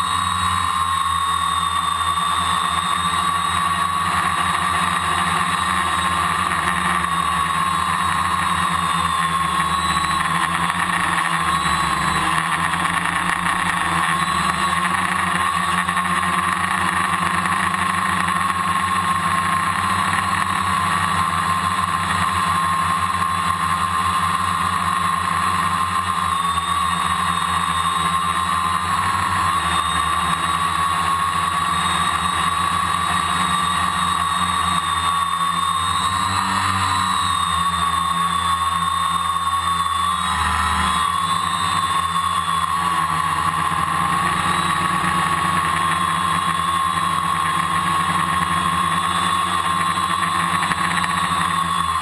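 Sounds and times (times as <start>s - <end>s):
drone propellers whirring: 0.0s - 52.0s.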